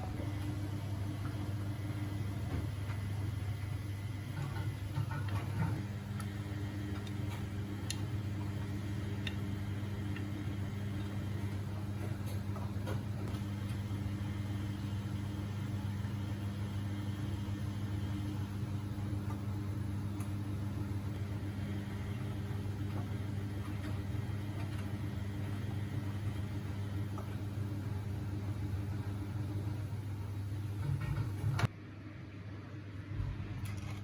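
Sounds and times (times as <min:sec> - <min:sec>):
washing machine motor humming: 0:00.0 - 0:31.8.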